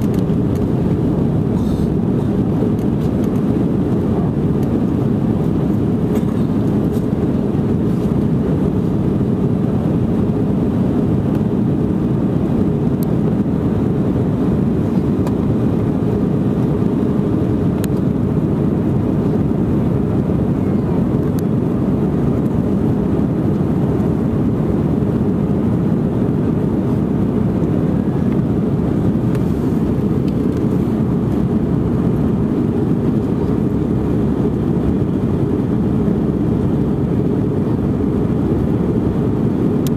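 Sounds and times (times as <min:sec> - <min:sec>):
airliner cabin engine and airflow noise: 0:00.0 - 0:39.9.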